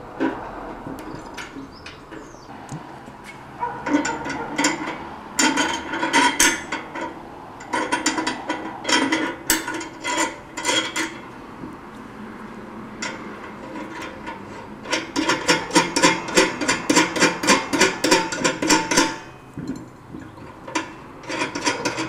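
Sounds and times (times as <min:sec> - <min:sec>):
metal hardware clinking and rattling: 0:00.2 - 0:11.8, 0:13.0 - 0:22.0.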